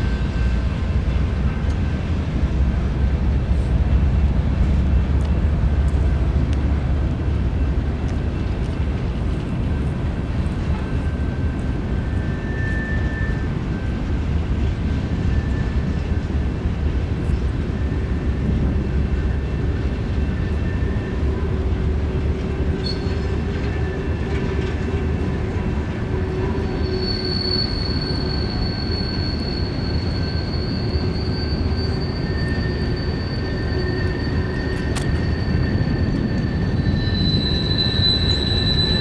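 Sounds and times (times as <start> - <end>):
train cars rumbling: 0.0 - 39.0
train wheels squealing: 0.0 - 39.0.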